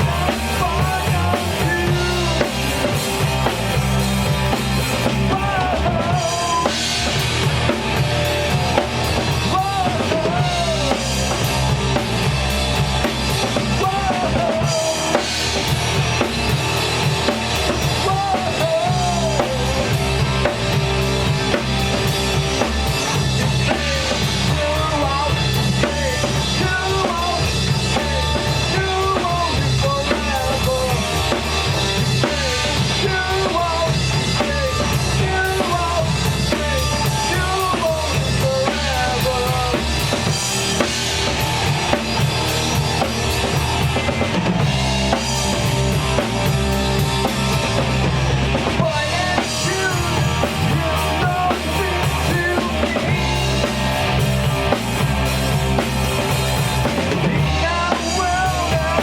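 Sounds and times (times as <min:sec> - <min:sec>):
drum kit beat: 0:00.0 - 0:59.0
rock band playing live: 0:00.0 - 0:59.0.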